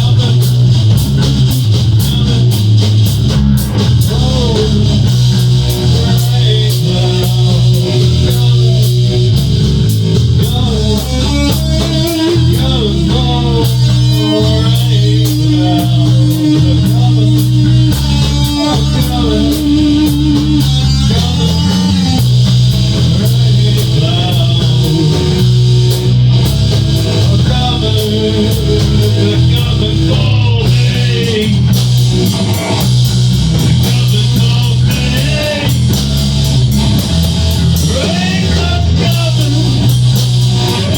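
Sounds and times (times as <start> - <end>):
bass guitar: 0.0 - 40.9
drum kit with cymbals: 0.0 - 40.9
electric guitar lead: 0.0 - 40.9.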